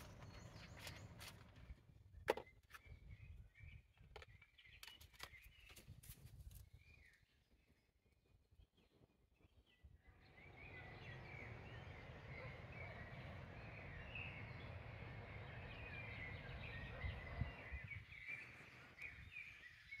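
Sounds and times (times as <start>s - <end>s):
small birds chirping: 0.0s - 1.8s, 2.4s - 20.0s.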